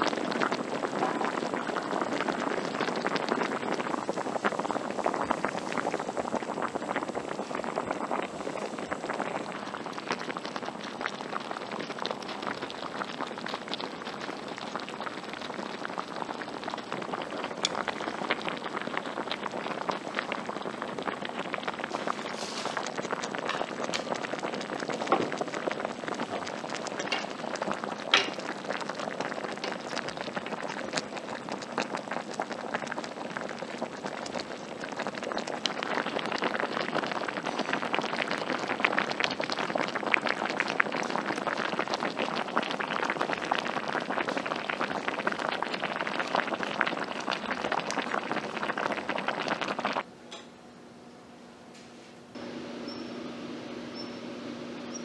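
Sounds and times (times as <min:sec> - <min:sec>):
broth bubbling in hotpot: 0:00.0 - 0:50.1.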